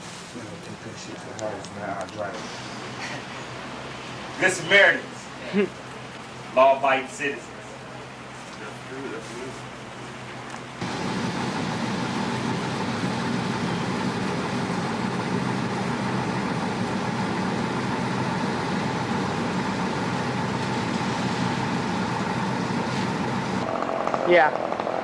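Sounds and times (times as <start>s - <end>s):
engine running with high whine: 0.7s - 25.0s.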